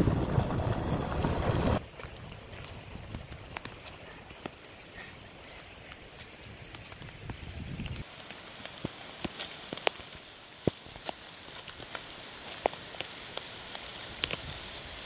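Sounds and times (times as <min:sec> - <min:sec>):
rain falling: 0:00.0 - 0:15.0
raindrops ticking on a surface: 0:00.3 - 0:15.0.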